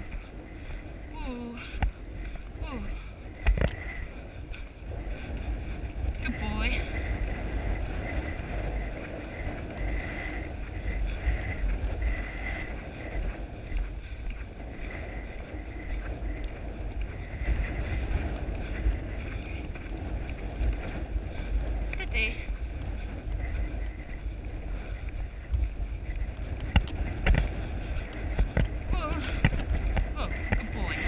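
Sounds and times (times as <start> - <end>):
muffled hooves on turf: 0.0 - 31.0
wind buffeting microphone: 0.0 - 31.0.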